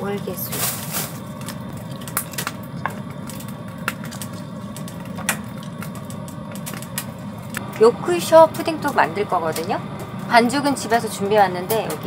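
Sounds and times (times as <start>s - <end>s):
vegetables frying with crackling pops: 0.0s - 12.0s.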